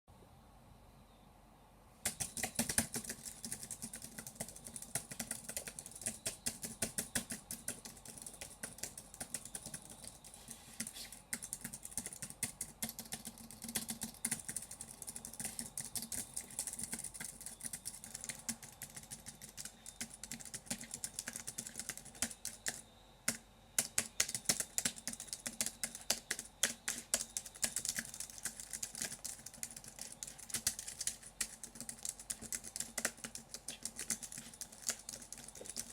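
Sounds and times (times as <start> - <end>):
fast typing on computer keyboard: 2.0 - 35.9.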